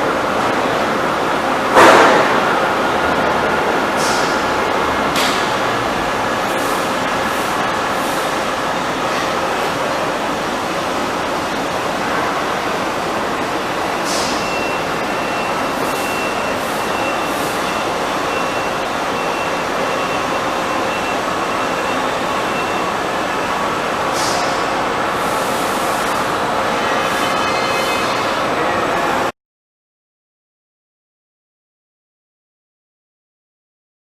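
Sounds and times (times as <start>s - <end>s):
machine running: 0.0s - 29.3s.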